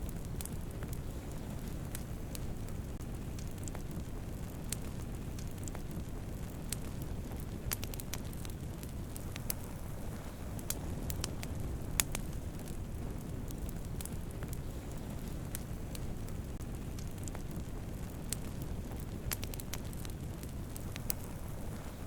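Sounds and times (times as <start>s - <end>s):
campfire flames rumbling: 0.0s - 22.0s
wood fire pops and snaps: 0.0s - 22.0s.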